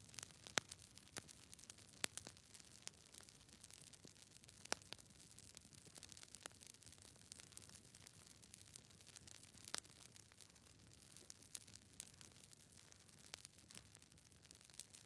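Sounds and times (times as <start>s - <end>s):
faint crackling clicks: 0.0s - 15.0s.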